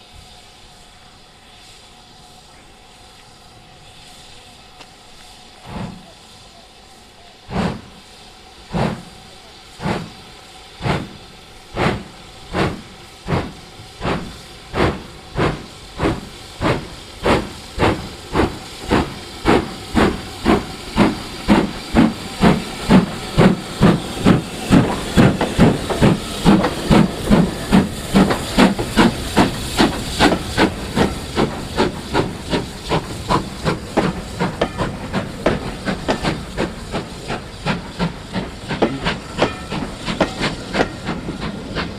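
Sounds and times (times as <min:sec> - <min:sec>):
steam locomotive exhaust beats: 0:00.0 - 0:41.9.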